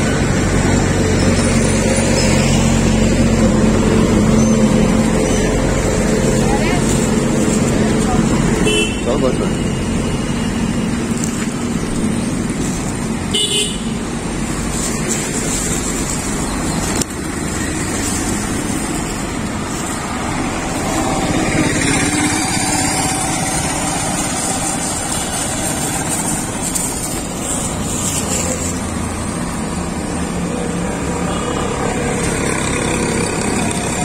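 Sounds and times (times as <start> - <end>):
street traffic noise: 0.0 - 34.0.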